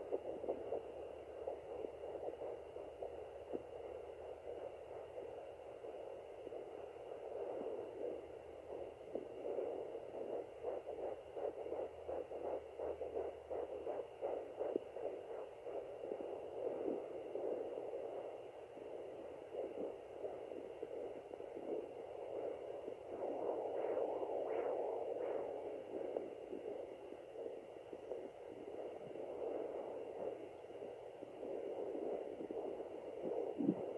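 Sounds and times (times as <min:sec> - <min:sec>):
fast fetal heartbeat pulsing: 0:00.0 - 0:33.9.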